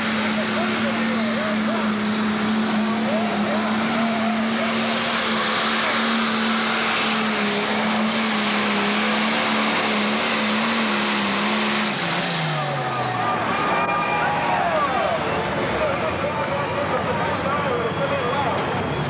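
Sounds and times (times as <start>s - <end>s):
diesel engine at full throttle: 0.0s - 19.0s.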